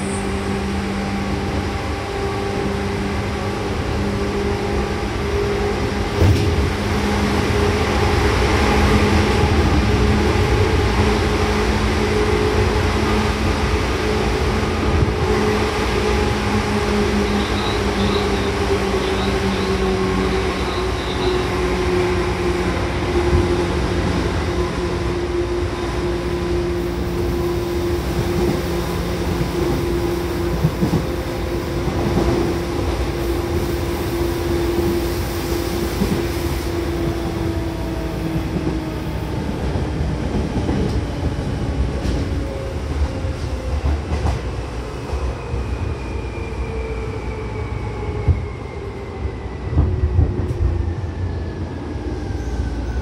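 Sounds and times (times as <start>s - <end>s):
rumbling wheel and rail noise: 0.0s - 53.0s.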